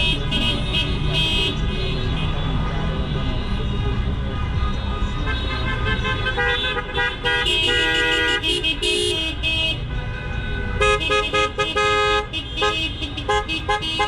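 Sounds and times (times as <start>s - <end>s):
car horns honking: 0.0s - 14.0s.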